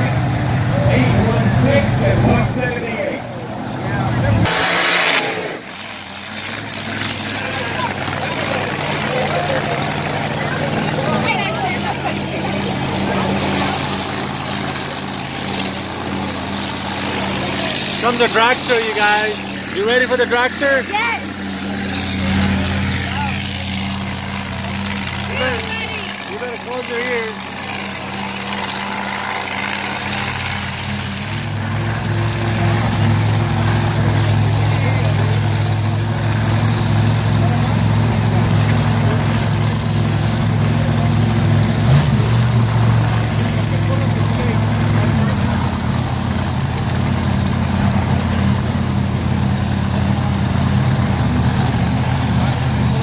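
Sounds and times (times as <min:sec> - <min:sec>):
dragster engine idling: 0:00.0 - 0:04.5, 0:05.4 - 0:53.0.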